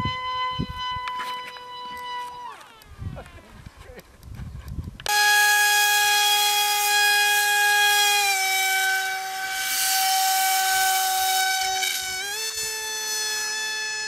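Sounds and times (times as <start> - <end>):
electric motor propeller whine: 0.0 - 3.7, 5.0 - 14.0.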